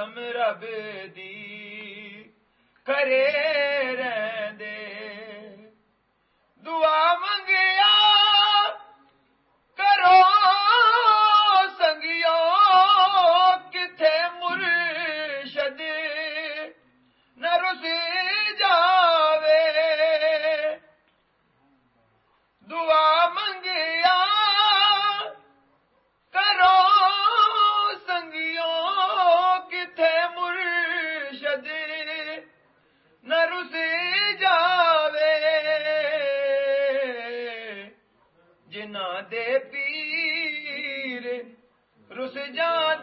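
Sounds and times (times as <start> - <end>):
man singing unaccompanied: 0.0 - 5.8, 6.6 - 9.1, 9.8 - 21.0, 22.6 - 25.6, 26.3 - 43.0.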